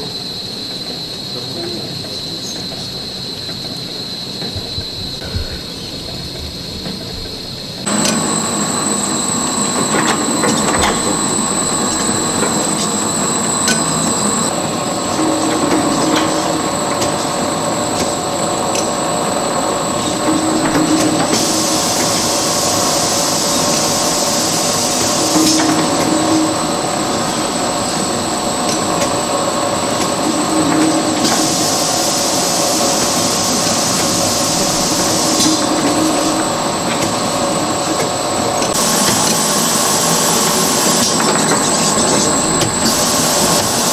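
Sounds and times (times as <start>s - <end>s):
machine clatter with high whine: 0.0s - 43.9s
loud high hiss: 7.9s - 43.9s.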